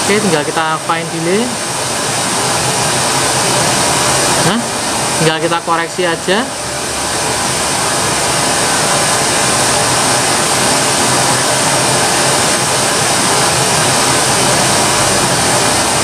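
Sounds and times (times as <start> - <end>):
pink noise hiss from loudspeaker: 0.0 - 16.0.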